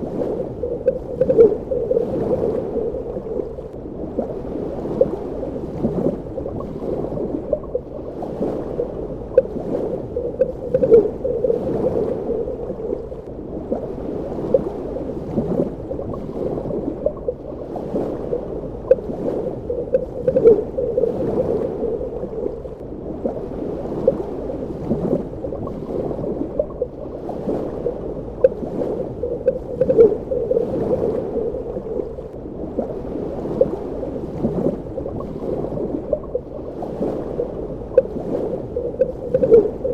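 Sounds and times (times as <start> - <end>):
muffled underwater water wash: 0.0 - 39.9
water gurgling: 0.0 - 39.9.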